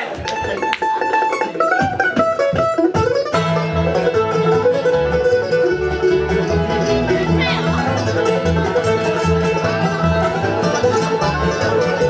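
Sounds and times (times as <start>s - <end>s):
banjo: 0.0s - 12.0s
bluegrass band playing: 0.0s - 12.0s
fiddle: 0.0s - 12.0s
upright bass beat: 0.1s - 12.0s.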